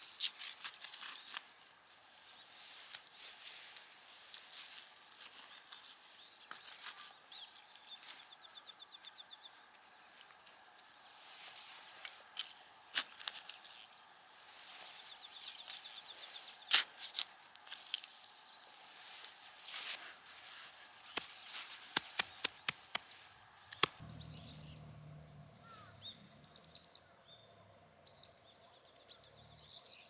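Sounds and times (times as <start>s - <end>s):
faint outdoor background: 0.0s - 30.0s
small birds chirping: 0.0s - 30.0s.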